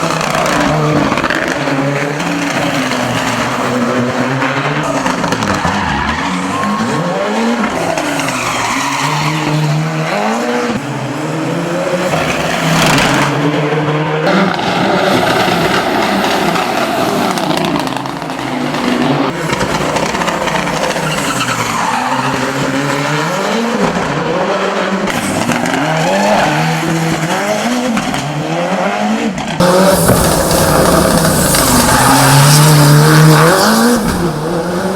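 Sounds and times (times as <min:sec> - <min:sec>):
tyres squealing and skidding: 0:00.0 - 0:24.0, 0:25.0 - 0:28.2, 0:29.6 - 0:34.9
racing car engine revving: 0:00.0 - 0:34.9.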